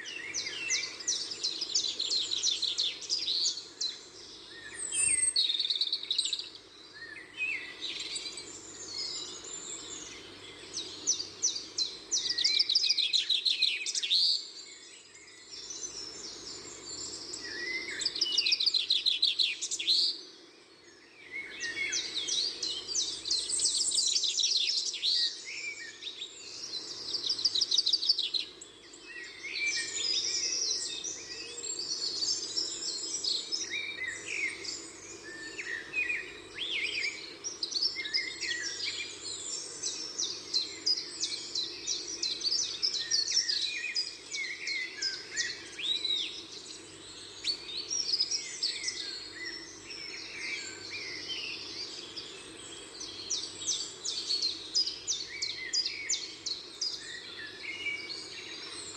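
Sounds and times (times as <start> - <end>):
small birds chirping and trilling: 0.0 - 58.9.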